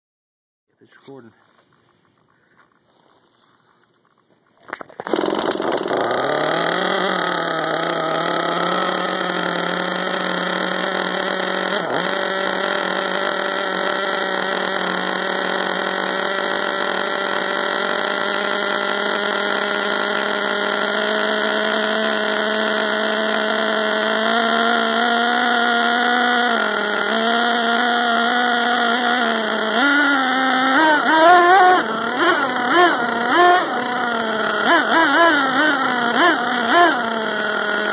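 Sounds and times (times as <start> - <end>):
small two-stroke engine idling: 4.7 - 37.9.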